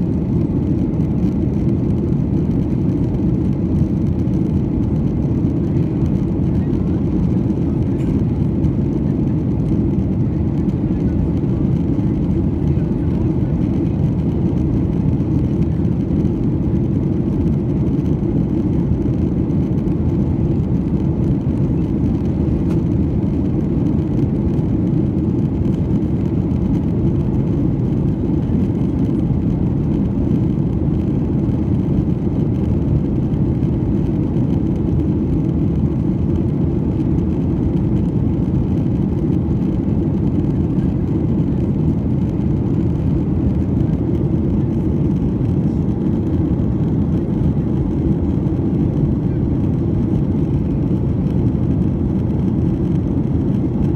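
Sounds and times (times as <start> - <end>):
airplane cabin engine noise: 0.0 - 53.9.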